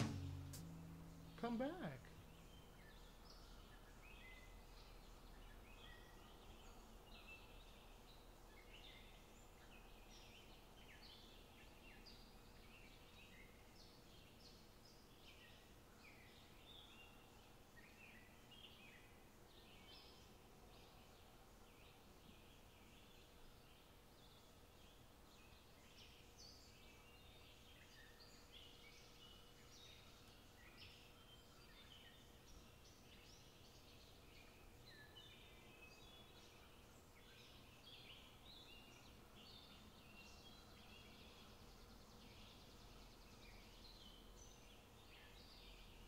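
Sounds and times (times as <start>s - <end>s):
birds chirping and twittering: 0.0s - 46.0s
low steady hiss: 0.0s - 46.0s.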